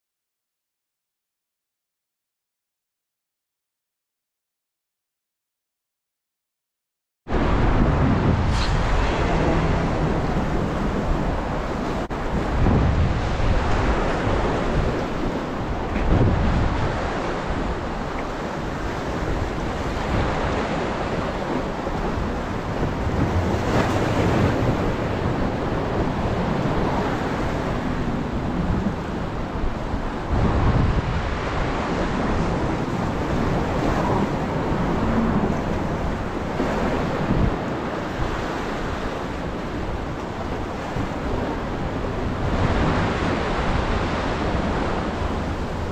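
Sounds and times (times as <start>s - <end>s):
waves breaking on shore: 7.3s - 45.9s
wind rumbling on microphone: 7.3s - 45.9s.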